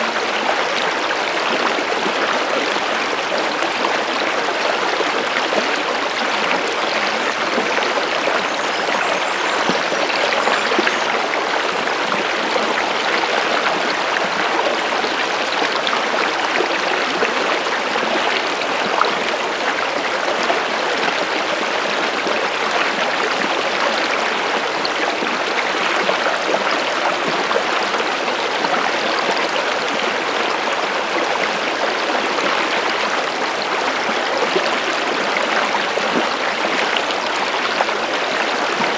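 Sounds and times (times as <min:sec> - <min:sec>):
stream water babbling over rocks: 0:00.0 - 0:38.9.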